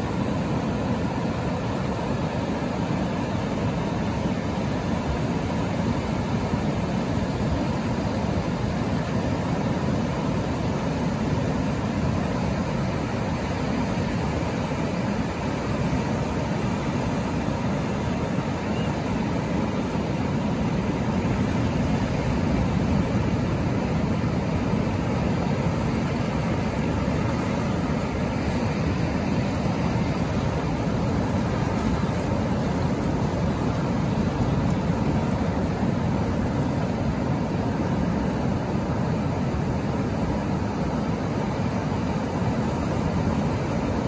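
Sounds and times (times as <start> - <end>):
water washing over sand: 0.0 - 44.0
waves breaking: 0.0 - 44.0.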